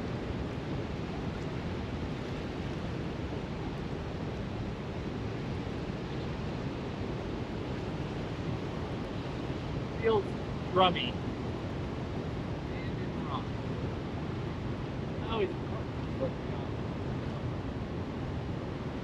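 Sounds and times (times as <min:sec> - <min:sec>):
turbulent river water rushing: 0:00.1 - 0:19.0.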